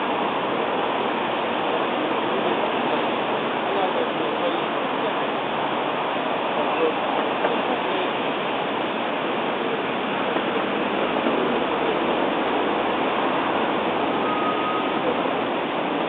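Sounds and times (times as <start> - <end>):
water rushing past hull: 0.0 - 16.0.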